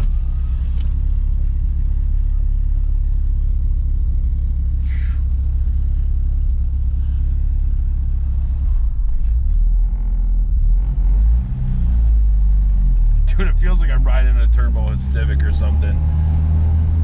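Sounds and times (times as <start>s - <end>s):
car cabin engine and road rumble: 0.0s - 17.0s.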